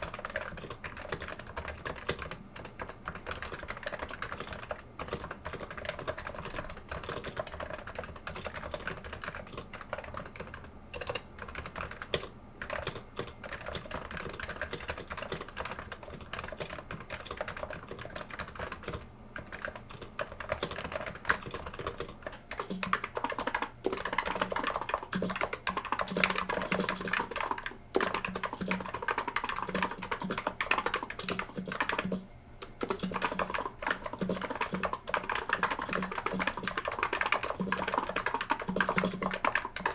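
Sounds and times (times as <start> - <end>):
louder keyboard typing with thock: 0.0 - 39.9
typing on a keyboard: 0.0 - 39.9.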